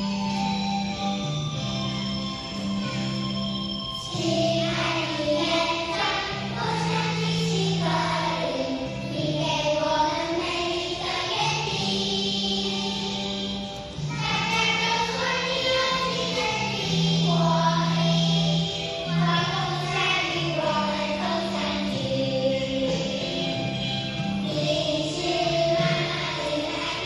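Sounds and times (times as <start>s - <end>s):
children's choir singing: 3.9s - 27.0s.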